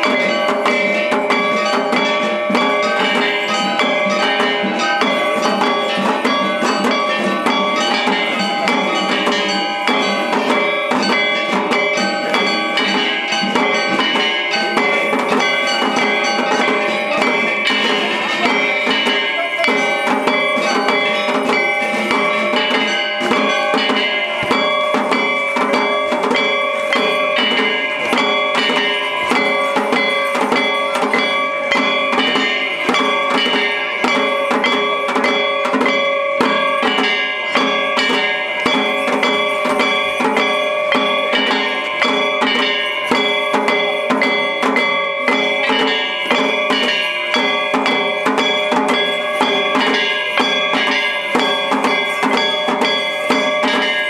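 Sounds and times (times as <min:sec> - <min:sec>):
clanging metal percussion: 0:00.0 - 0:54.0
drums: 0:00.0 - 0:54.0
sustained ringing tones: 0:00.0 - 0:54.0.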